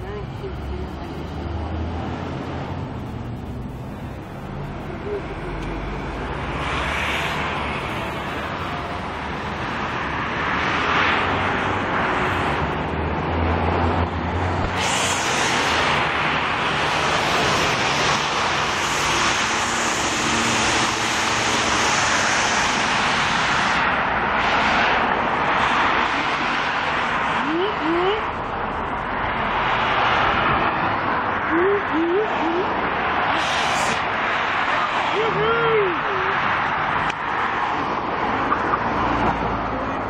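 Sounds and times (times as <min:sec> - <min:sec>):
rushing outdoor roar: 0:00.0 - 0:40.0.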